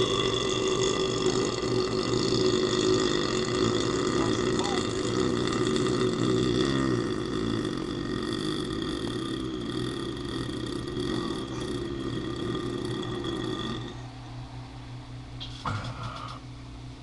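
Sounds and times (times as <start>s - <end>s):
man burping: 0.0s - 14.0s, 15.5s - 16.4s.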